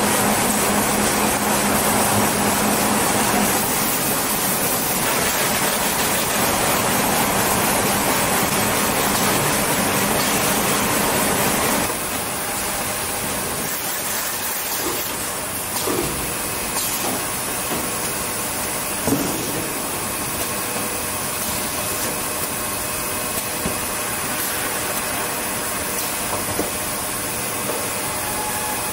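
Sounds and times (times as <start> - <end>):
machinery hiss and hum: 0.0 - 28.9.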